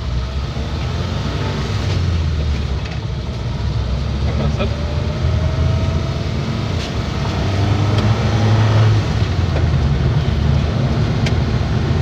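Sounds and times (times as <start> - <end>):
road noise: 0.0 - 12.0
truck engine droning: 0.0 - 12.0.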